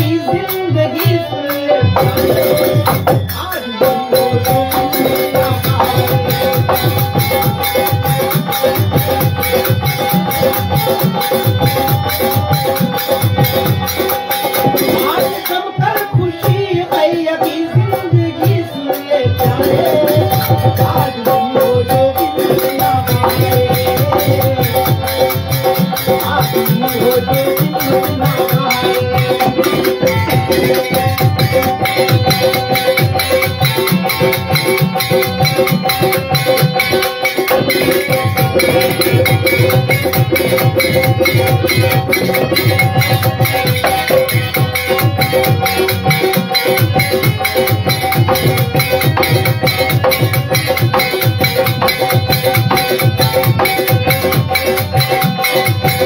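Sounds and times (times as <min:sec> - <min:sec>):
fast hand drumming: 0:00.0 - 0:56.0
harmonium melody: 0:00.0 - 0:56.0
jingling hand percussion: 0:00.0 - 0:56.0.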